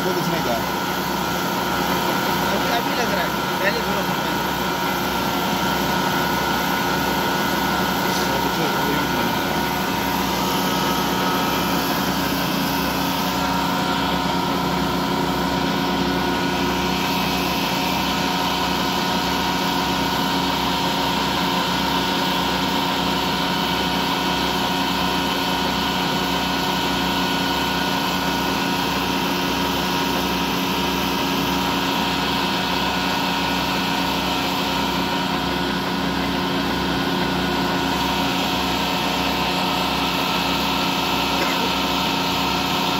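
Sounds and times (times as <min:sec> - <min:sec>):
lathe motor humming: 0:00.0 - 0:42.9.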